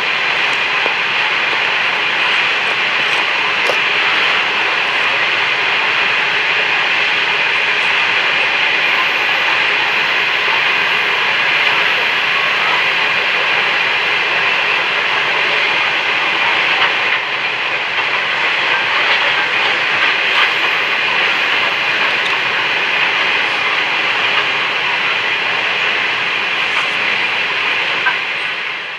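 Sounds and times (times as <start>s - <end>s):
freight train wheels on rails: 0.0s - 28.9s.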